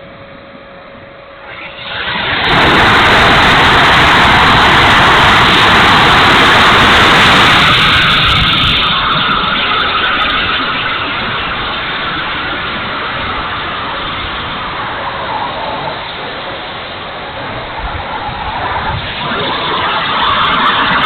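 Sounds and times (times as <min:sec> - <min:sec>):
wind rumbling on microphone: 0:00.0 - 0:21.0
model jet whooshing past: 0:01.4 - 0:21.0.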